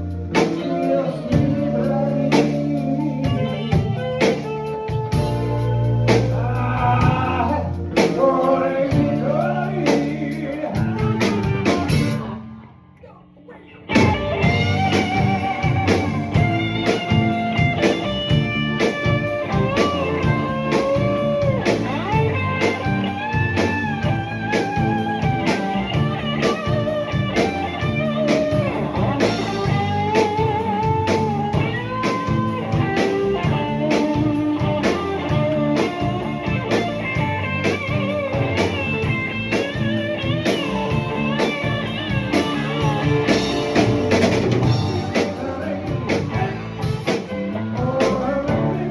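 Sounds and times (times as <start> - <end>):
drum beats: 0.0 - 12.4, 13.9 - 48.9
blues-rock band playing: 0.0 - 12.7, 13.7 - 48.9
electric guitar lead: 0.0 - 48.9.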